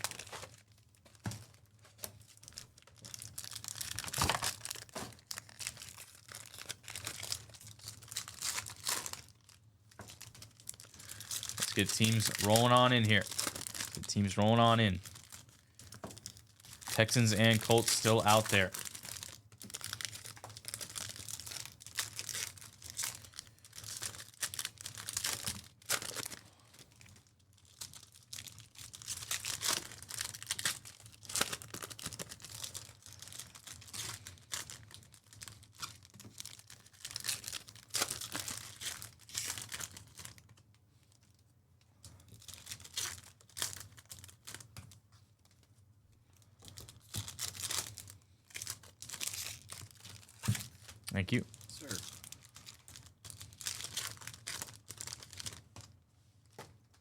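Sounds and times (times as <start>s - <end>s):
wrappers crinkling and tearing: 0.0s - 41.4s, 42.0s - 57.0s.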